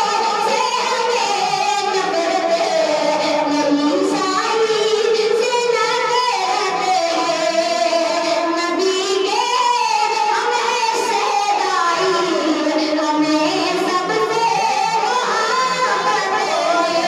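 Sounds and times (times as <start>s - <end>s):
boy singing chant-like: 0.0s - 17.0s.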